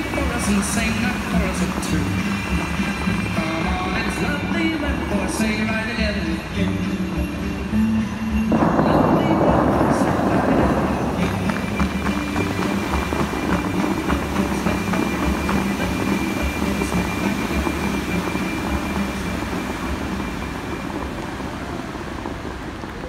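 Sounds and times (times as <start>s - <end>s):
fountain water jets crashing: 0.0s - 23.0s.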